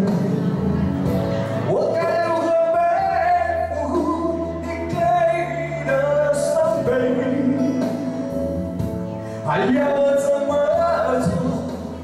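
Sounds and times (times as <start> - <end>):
man singing into microphone: 0.0 - 0.7, 1.6 - 8.6, 9.4 - 12.0
backing music: 0.0 - 12.0.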